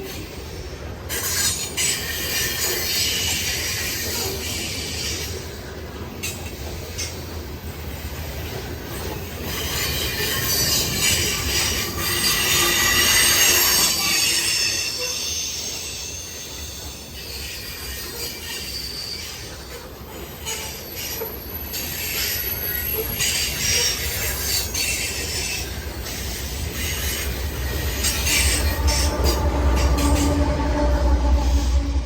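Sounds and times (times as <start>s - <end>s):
low train rumble: 0.0s - 32.0s
steel wheels squealing: 0.0s - 32.0s.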